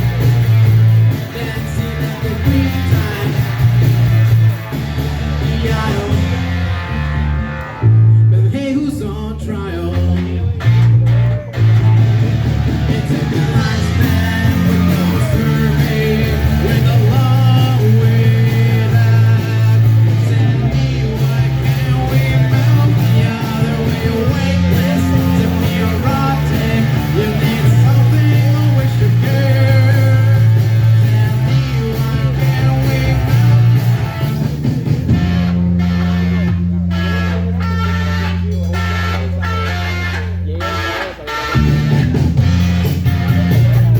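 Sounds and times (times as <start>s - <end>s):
bass line: 0.0s - 43.9s
drums: 0.0s - 43.9s
electric guitar: 0.0s - 43.9s.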